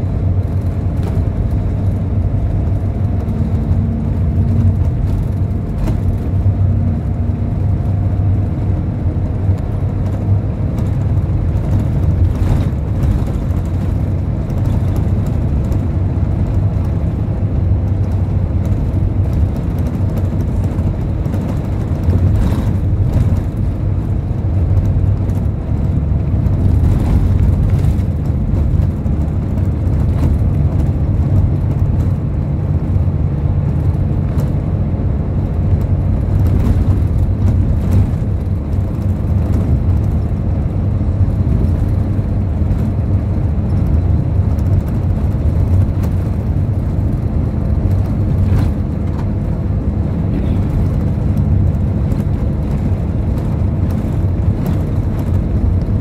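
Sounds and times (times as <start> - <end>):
road noise: 0.0 - 56.0
vehicle engine drone: 0.0 - 56.0.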